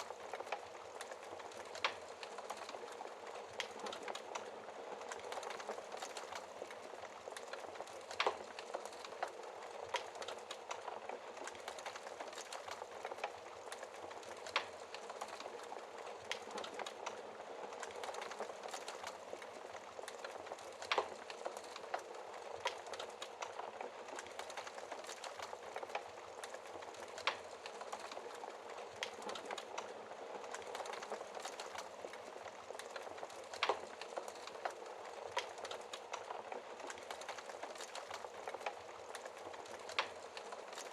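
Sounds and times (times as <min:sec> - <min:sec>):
fire popping: 0:00.0 - 0:40.9
wood fire crackling: 0:00.0 - 0:40.9.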